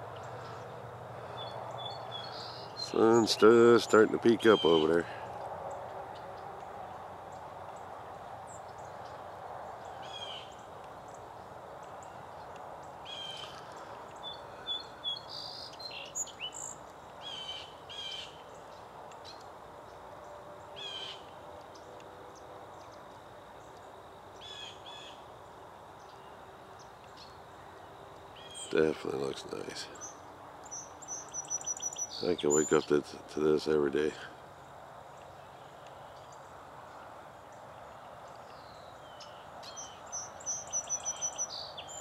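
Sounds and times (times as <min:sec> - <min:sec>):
small birds chirping: 0:00.0 - 0:42.0
steady background hiss: 0:00.0 - 0:42.0.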